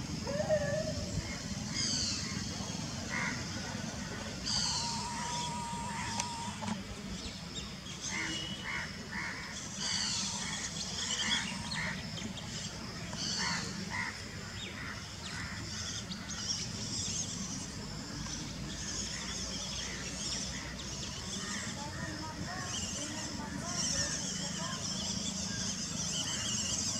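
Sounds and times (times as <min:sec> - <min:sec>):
steady background noise: 0:00.0 - 0:26.9.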